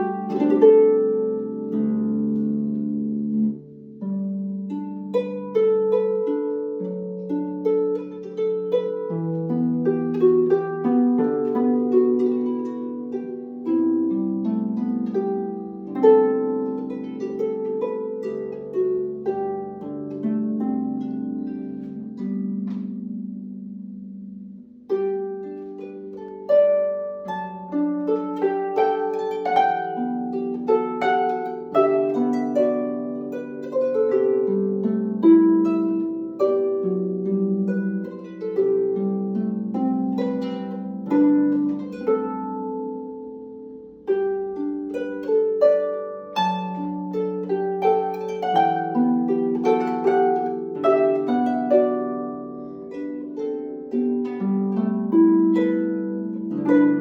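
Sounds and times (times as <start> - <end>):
solo harp melody: 0.0 - 57.0.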